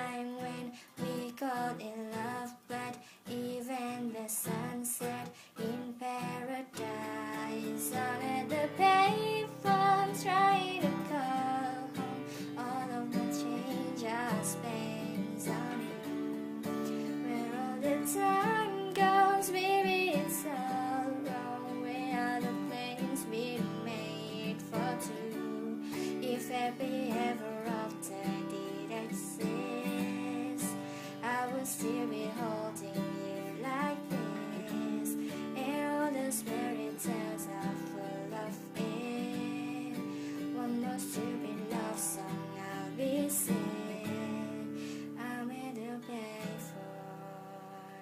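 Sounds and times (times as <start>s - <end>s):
strummed acoustic guitar: 0.0s - 48.0s
woman singing: 0.0s - 48.0s.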